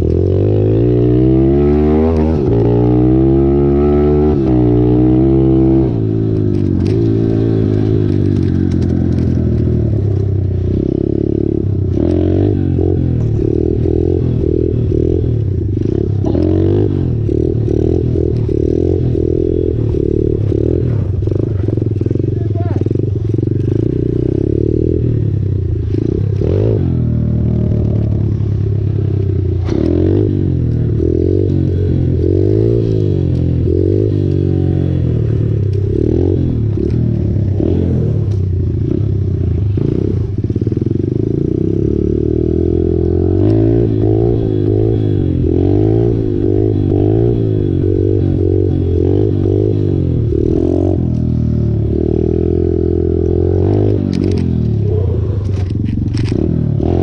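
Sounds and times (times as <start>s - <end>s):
mini bike engine revving: 10.6s - 29.0s, 29.6s - 57.0s.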